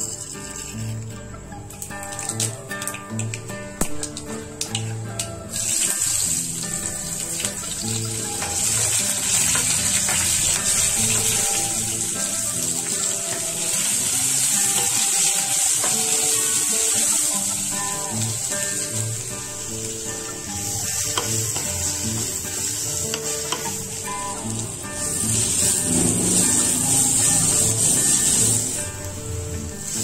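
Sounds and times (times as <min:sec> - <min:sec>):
background music: 0:00.0 - 0:30.0
hot oil sizzling in a pan: 0:00.0 - 0:30.0.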